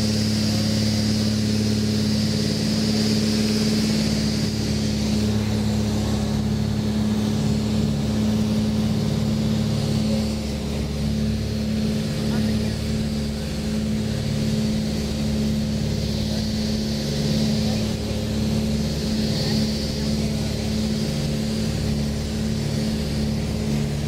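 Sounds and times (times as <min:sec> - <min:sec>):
airplane engines droning: 0:00.0 - 0:24.0.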